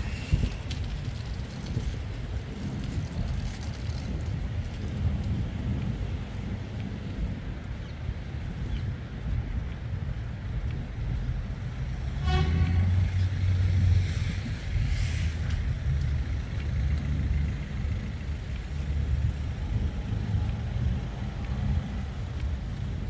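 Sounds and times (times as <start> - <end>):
vehicles passing with engine rumble: 0.0 - 23.0.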